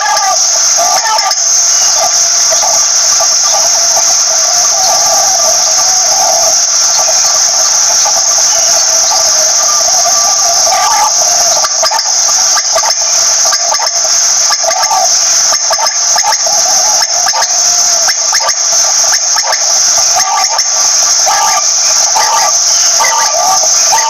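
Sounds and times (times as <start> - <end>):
loud high-pitched hiss: 0.0 - 24.0
quail calling: 0.0 - 24.0.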